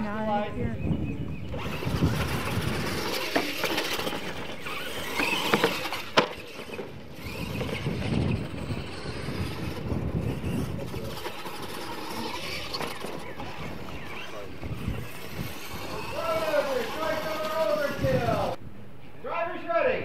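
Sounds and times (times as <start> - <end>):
toy truck motors running: 1.3 - 18.6
tyres scrabbling over dirt: 1.4 - 18.6.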